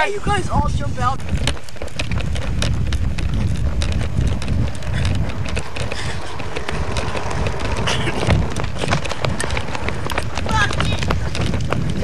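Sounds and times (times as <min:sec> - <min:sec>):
running footfalls and knocks: 0:00.0 - 0:12.0
wind buffeting microphone: 0:00.0 - 0:12.0.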